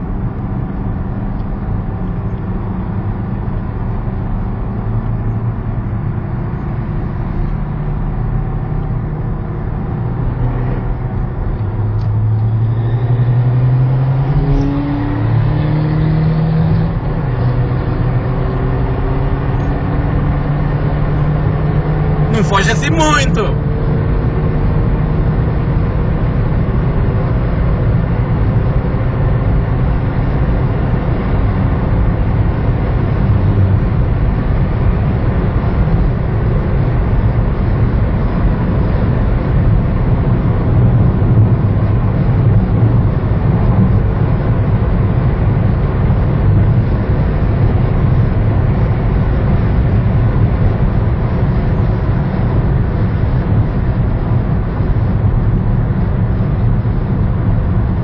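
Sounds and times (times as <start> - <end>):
car interior road noise: 0.0 - 58.0.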